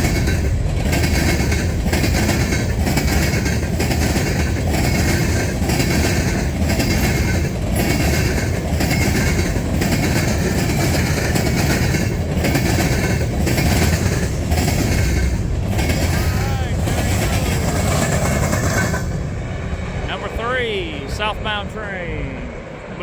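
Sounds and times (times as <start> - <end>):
freight train cars rolling past: 0.0 - 23.0.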